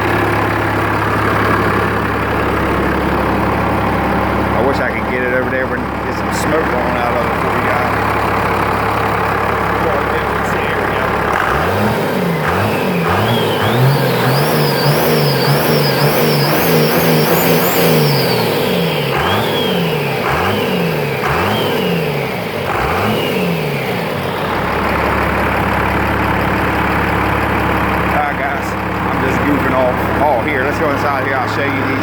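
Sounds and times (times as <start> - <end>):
diesel engine revving: 0.0 - 32.0.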